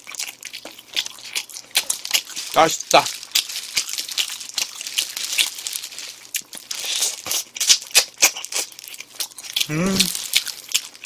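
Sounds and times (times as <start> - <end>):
chewing chicken wing: 0.0 - 11.0
plastic gloves crinkling: 1.5 - 11.0.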